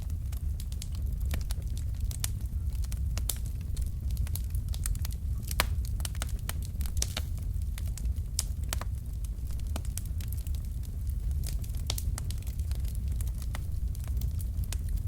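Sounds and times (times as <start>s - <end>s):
burning logs crackling and popping: 0.0s - 15.0s
low rumble of fire: 0.0s - 15.0s.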